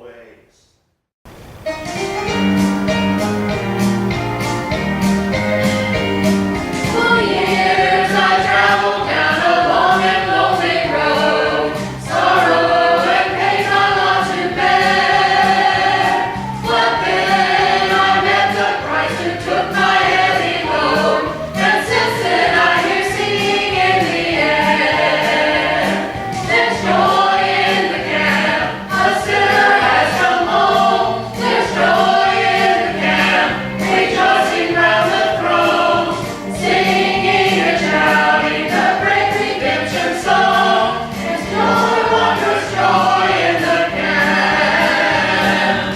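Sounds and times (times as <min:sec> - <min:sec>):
instrumental backing: 0:01.3 - 0:45.9
group singing gospel in harmony: 0:03.2 - 0:45.9.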